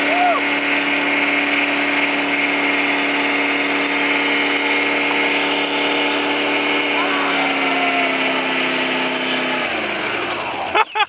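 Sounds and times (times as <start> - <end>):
buggy engine at high revs: 0.0 - 11.0
tyres spinning on dirt: 0.0 - 11.0.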